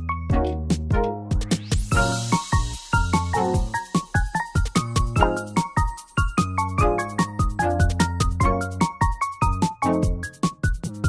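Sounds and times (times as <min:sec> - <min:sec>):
upbeat music with drum beat: 0:00.7 - 0:11.0.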